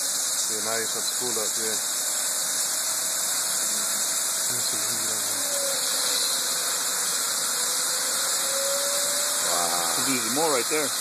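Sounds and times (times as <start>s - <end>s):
turbine whine: 0.0s - 11.0s
water jets hissing: 0.0s - 11.0s.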